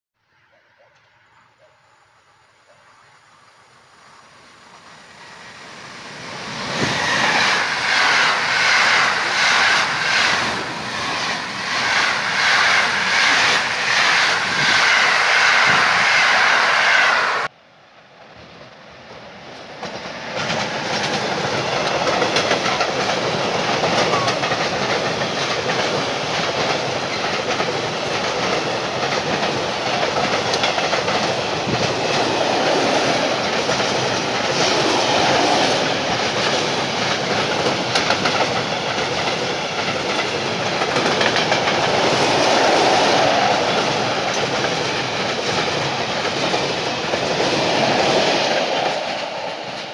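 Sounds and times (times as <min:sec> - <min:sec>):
freight train rumbling past: 0:00.4 - 0:49.9
train wheels clattering: 0:04.7 - 0:17.2, 0:19.6 - 0:49.9.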